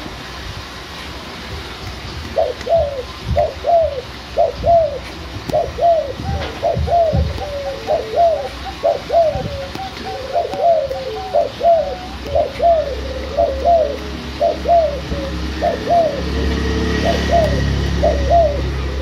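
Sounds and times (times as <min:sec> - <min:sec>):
dove cooing: 0:02.3 - 0:19.0.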